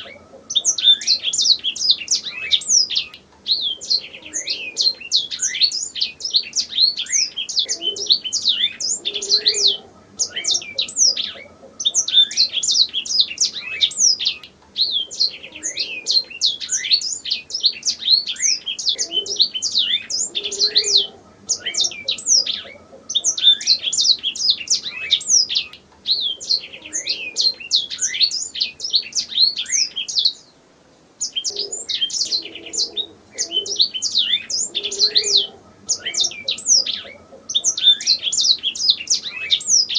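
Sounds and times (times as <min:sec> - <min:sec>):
canary singing: 0:00.0 - 0:30.5, 0:31.2 - 0:39.9.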